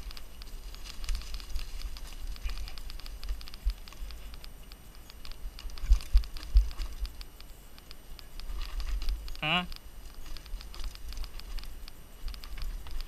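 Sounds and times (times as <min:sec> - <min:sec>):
bike clicks and rattles: 0:00.0 - 0:13.0
tyres crackling over leaves: 0:00.0 - 0:13.0.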